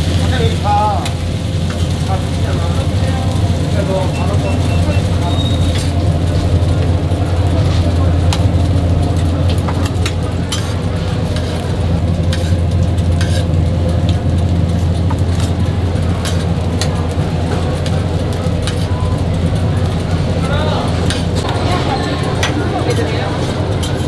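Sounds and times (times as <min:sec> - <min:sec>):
low hum: 0:01.2 - 0:24.0
faint voices: 0:01.9 - 0:24.0
cooking utensils clicking: 0:04.1 - 0:24.0.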